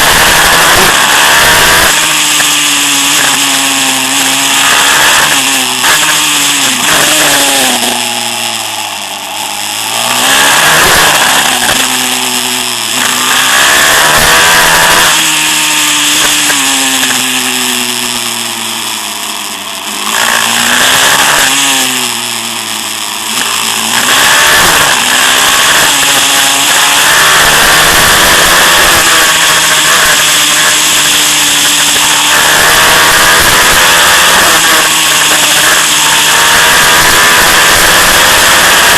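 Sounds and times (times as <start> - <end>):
pit bike engine revving: 0.0 - 38.9.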